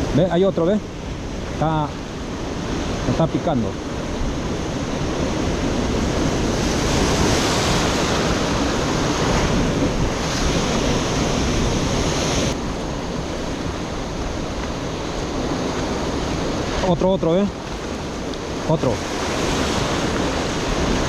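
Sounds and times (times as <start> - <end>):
ocean surf washing against rocks: 0.0 - 21.0
wind buffeting microphone: 0.0 - 21.0.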